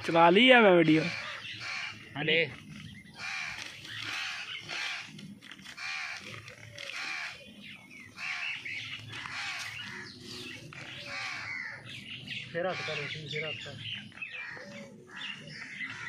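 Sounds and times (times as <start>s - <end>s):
crows cawing: 0.8s - 2.3s, 3.1s - 12.0s, 12.6s - 16.0s.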